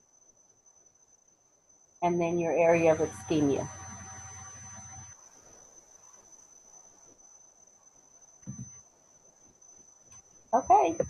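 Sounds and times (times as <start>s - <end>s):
thin high-pitched whine: 0.0s - 11.0s.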